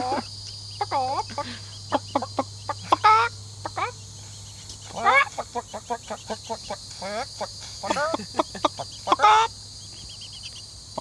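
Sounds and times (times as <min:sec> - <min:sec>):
chickens clucking softly: 0:00.0 - 0:11.0
crickets chirping: 0:00.0 - 0:11.0.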